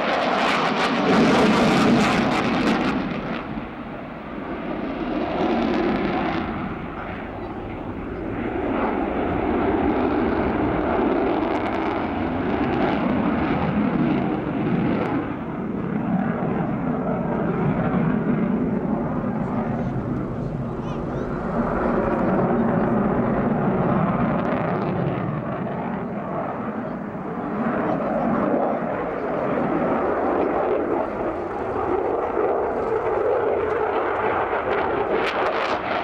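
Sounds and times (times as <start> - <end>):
aircraft engine drone: 0.0 - 36.0.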